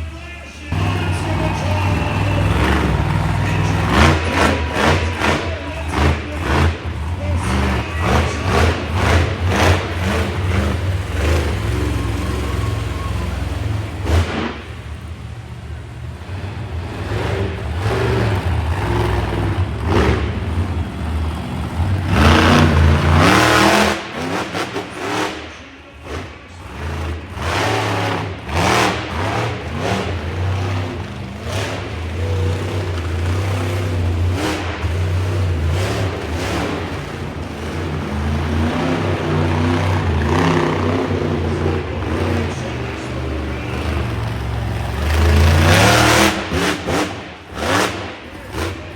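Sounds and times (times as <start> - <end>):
monster truck engine revving: 0.0 - 48.9.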